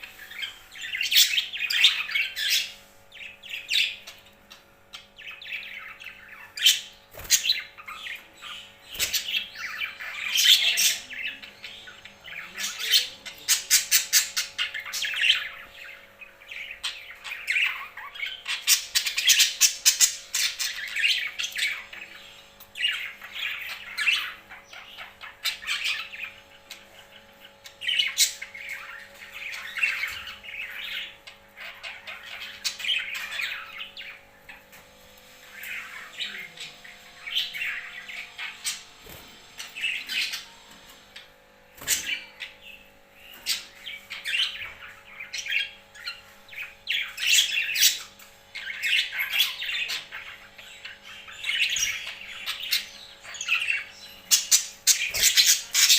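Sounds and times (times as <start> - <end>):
pet birds chirping and squawking: 0.0 - 55.9.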